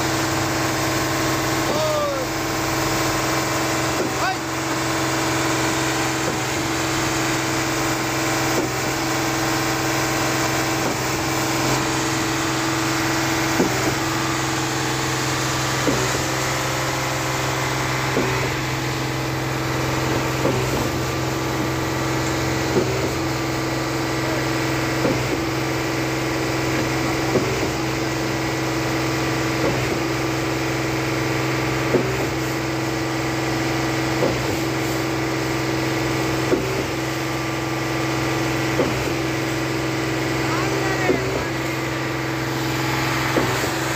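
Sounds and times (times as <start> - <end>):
diesel engine running: 0.0 - 43.9
pump knocking: 0.0 - 43.9.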